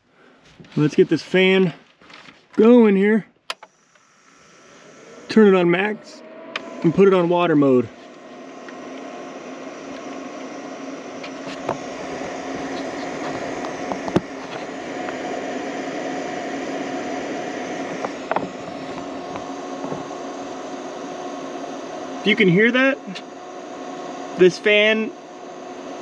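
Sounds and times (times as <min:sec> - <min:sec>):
small fan whirring hum: 0:00.0 - 0:26.0.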